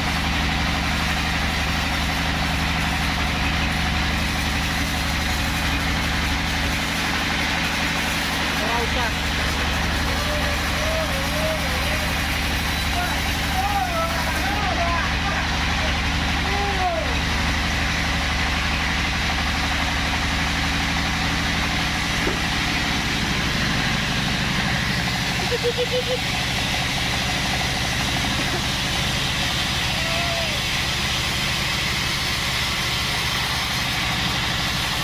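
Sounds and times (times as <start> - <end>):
band saw machinery whirring: 0.0 - 35.0.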